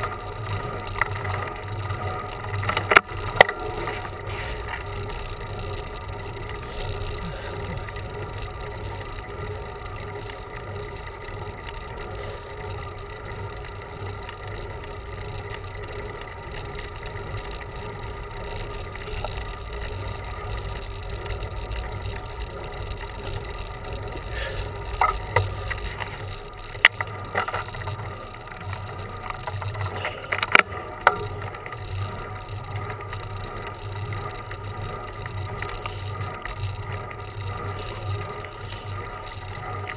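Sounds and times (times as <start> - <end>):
bicycle clicks and rattles: 0.0 - 39.9
road rumble: 0.0 - 39.9.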